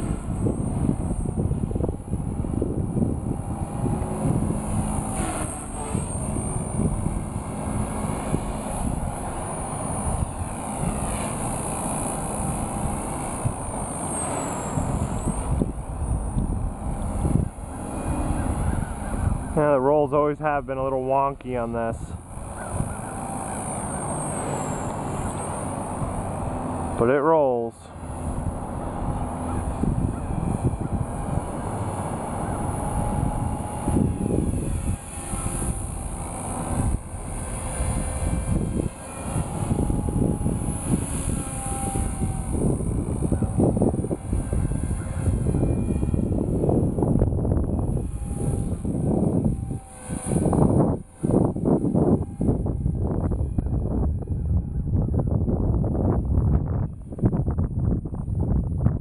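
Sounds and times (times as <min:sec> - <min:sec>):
low noisy rumble: 0:00.0 - 0:59.0
rc helicopter rotor whine: 0:00.0 - 0:59.0.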